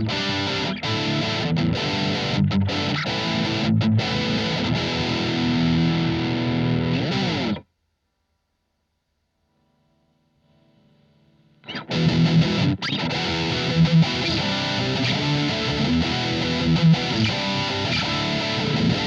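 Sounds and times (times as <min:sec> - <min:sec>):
distorted electric guitar: 0:00.0 - 0:07.7, 0:09.6 - 0:19.0.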